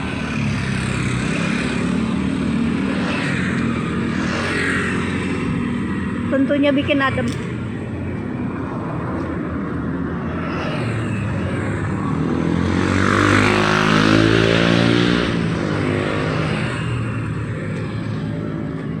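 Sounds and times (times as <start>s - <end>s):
motor vehicle passing: 0.0s - 19.0s.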